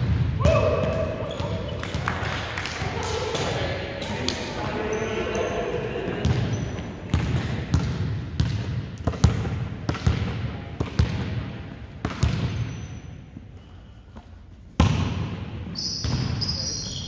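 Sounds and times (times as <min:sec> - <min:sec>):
volleyball thuds in a gym: 0:00.0 - 0:04.9, 0:05.9 - 0:17.0.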